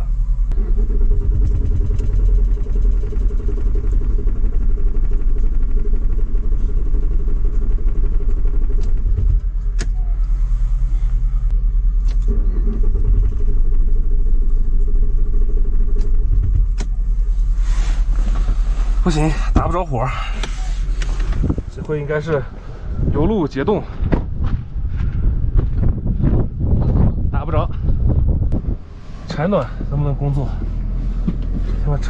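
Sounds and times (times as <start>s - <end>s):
diesel engine cranking: 0.0s - 32.0s.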